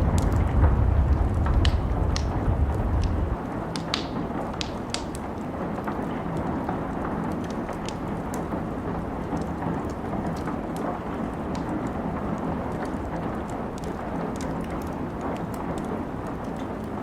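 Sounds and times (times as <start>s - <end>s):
steady rain hiss: 0.0s - 17.0s
wood fire crackling: 0.0s - 17.0s.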